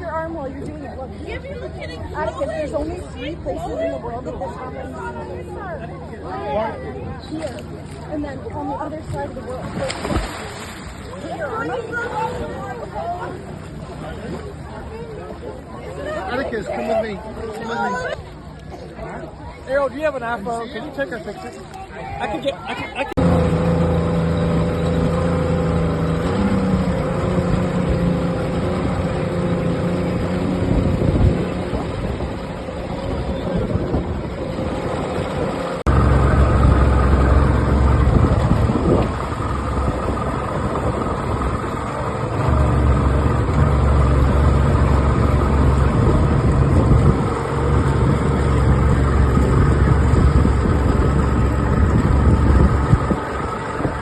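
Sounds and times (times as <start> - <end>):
boat engine humming: 0.0 - 54.0.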